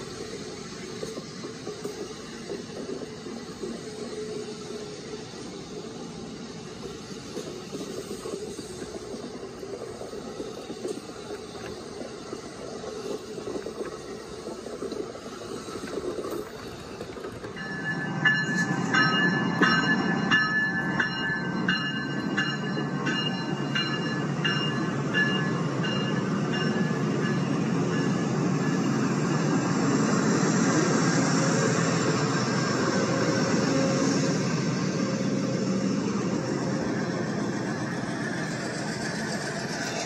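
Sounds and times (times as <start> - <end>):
even clicking of train: 0.0 - 40.0.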